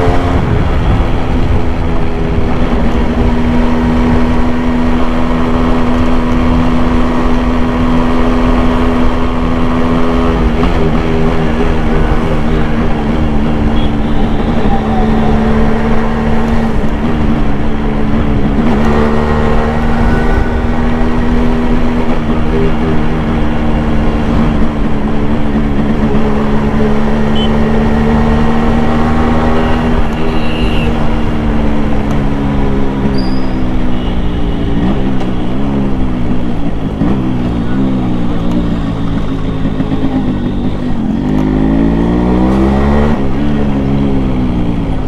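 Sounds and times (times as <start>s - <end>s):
road and wind noise: 0.0s - 45.0s
two-stroke motorcycle engine running: 0.0s - 45.0s.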